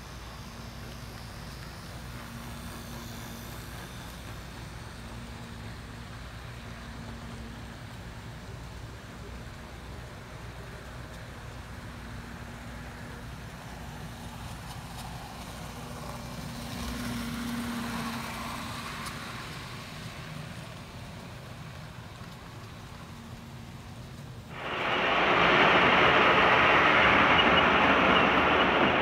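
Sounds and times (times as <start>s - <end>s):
loud rolling train: 0.0s - 29.0s
model train motor and wheels humming: 0.0s - 29.0s.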